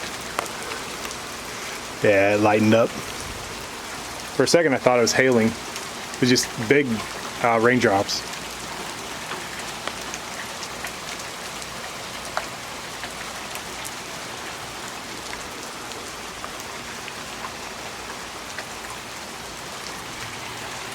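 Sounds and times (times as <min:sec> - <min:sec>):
heavy rain falling: 0:00.0 - 0:20.9.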